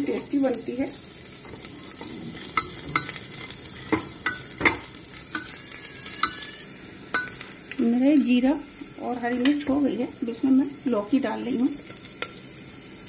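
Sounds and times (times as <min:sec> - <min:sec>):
spices sizzling in hot ghee: 0:00.0 - 0:13.0.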